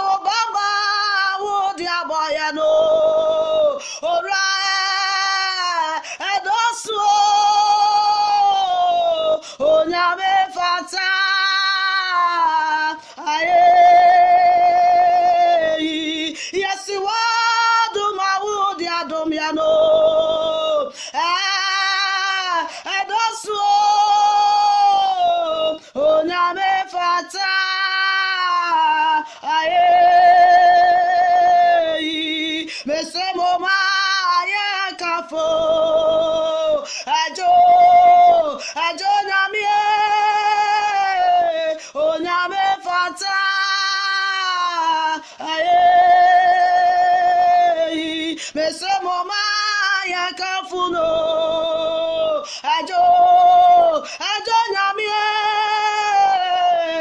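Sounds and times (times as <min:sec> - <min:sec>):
woman singing unaccompanied: 0:00.0 - 0:57.0.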